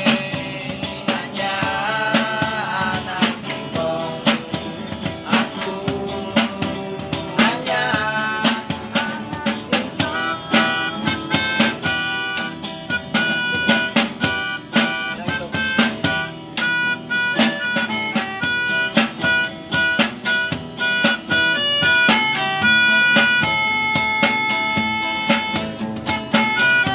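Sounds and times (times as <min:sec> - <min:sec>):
instrumental guitar music: 0:00.0 - 0:26.9.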